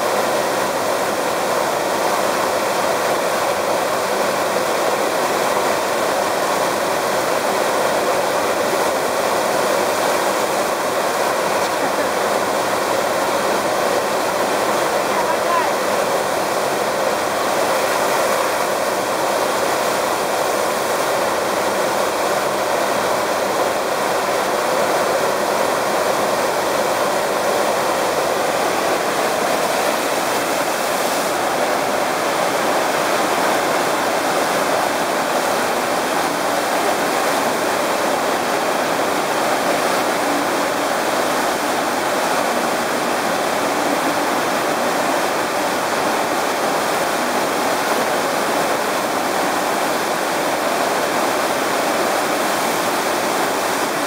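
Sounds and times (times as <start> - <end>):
water rushing up a slope: 0.0 - 54.0.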